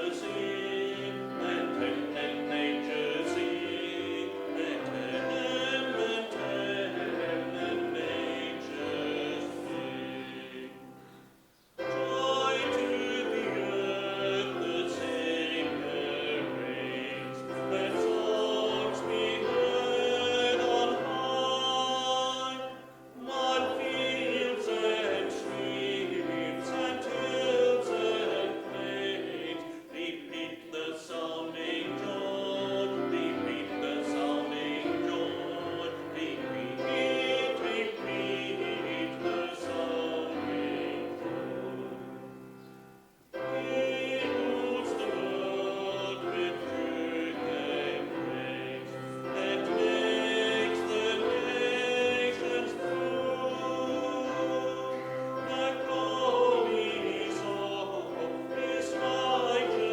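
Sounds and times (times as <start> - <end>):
choir singing a carol: 0.0 - 59.9.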